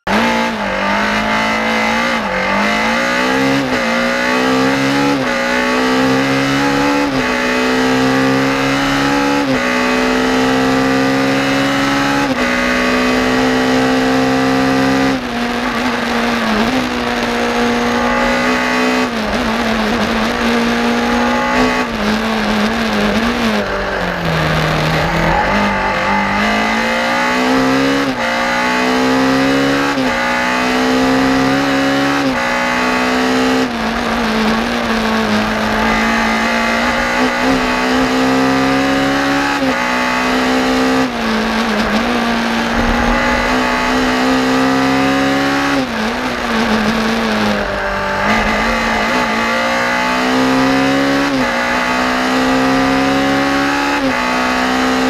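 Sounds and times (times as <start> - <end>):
rally car engine accelerating: 0.0 - 55.0.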